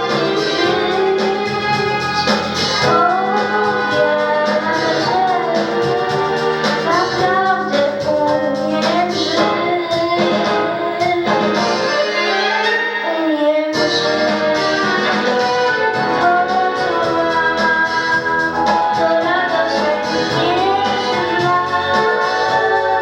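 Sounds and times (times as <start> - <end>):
woman singing: 0.0 - 12.2, 12.9 - 23.0
instrumental accompaniment: 0.0 - 23.0.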